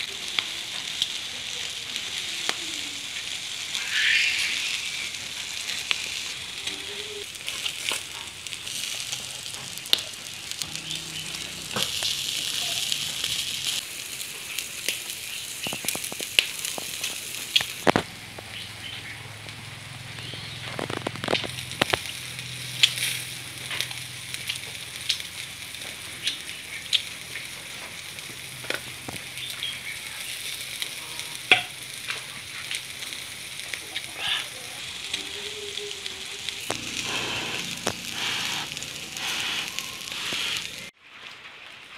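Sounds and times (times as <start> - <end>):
fat popping and crackling: 0.0 - 41.0
meat sizzling on grill: 0.0 - 41.0.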